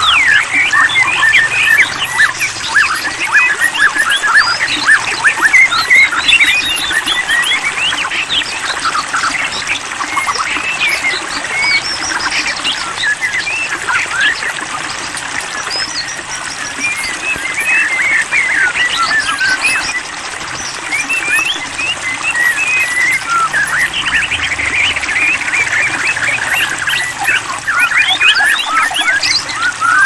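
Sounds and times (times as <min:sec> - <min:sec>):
bird chirping and whistling: 0:00.0 - 0:14.7, 0:15.4 - 0:30.0.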